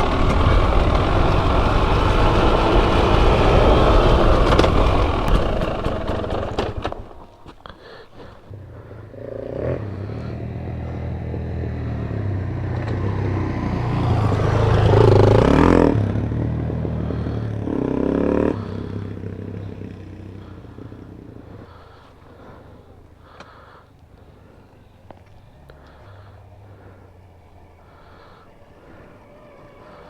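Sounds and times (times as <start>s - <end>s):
motorbike engine revving: 0.0s - 30.0s.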